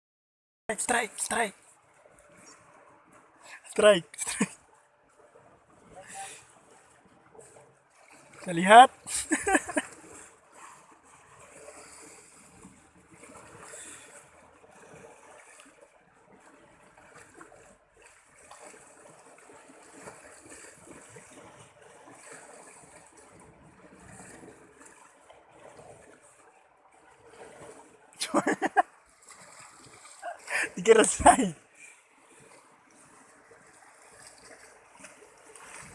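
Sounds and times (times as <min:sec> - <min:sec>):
faint trickling water: 0:00.7 - 0:35.9.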